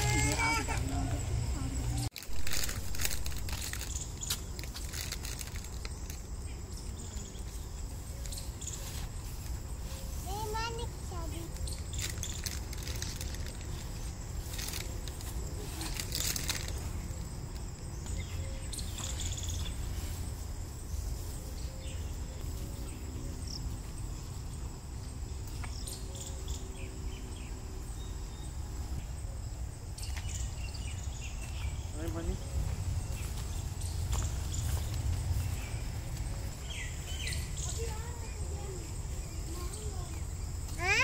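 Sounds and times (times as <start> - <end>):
high insect chirring: 0.0 - 41.0.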